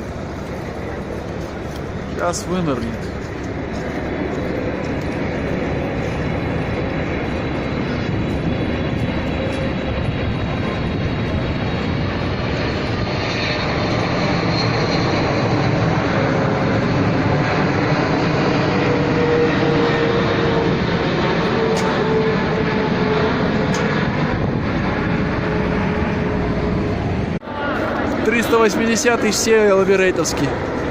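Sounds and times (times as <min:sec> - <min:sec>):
faint turbine whine: 0:00.0 - 0:30.9
jet airliner engines: 0:00.0 - 0:30.9.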